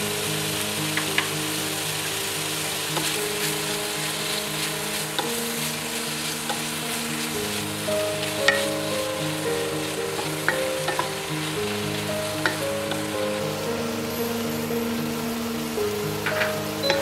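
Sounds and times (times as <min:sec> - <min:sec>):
food sizzling in a skillet: 0:00.0 - 0:17.0
soft background music: 0:00.0 - 0:17.0.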